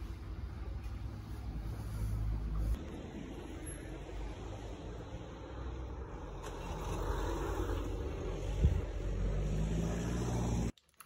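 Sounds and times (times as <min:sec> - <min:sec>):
traffic rumble: 0:00.0 - 0:10.8.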